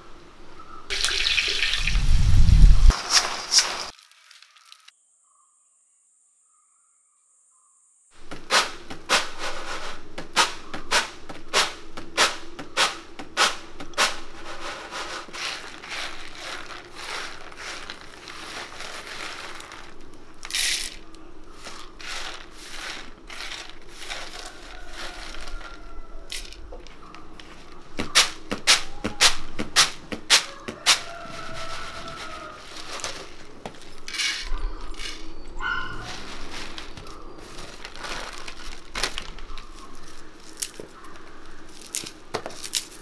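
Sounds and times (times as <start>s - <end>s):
rubbing and crackling: 2.5s - 4.9s, 8.2s - 43.0s.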